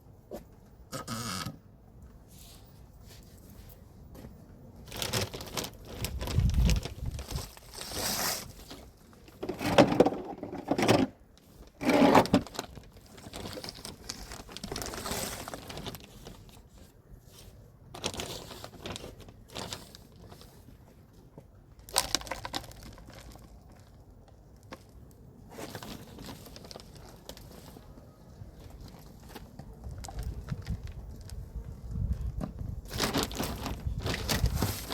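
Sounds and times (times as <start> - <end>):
compost rustling and crunching: 2.4 - 34.9.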